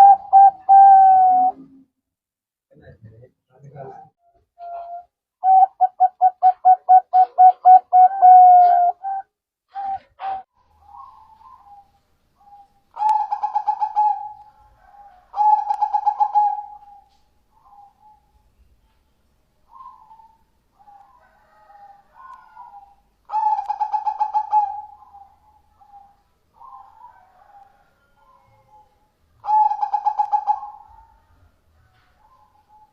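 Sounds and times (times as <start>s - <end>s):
doves cooing: 0.0s - 1.8s, 4.6s - 18.5s, 19.7s - 31.2s.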